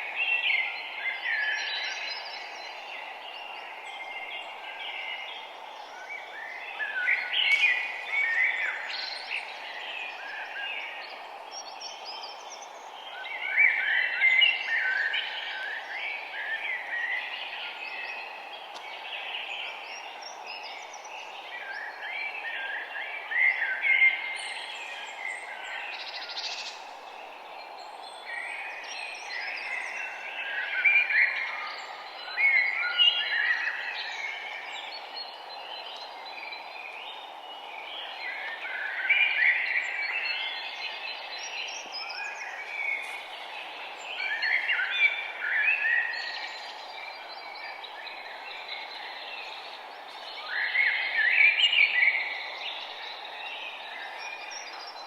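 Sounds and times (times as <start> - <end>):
songbirds chirping and singing: 0.0 - 55.0
steady background hiss: 0.0 - 55.0.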